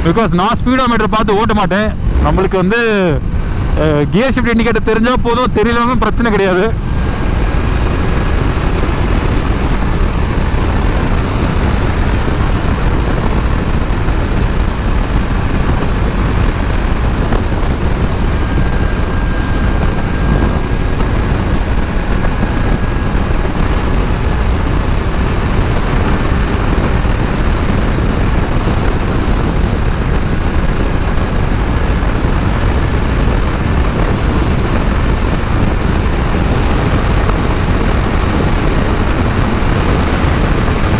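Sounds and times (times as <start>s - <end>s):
wind rush on microphone: 0.0s - 40.9s
motorcycle engine running: 6.0s - 40.9s.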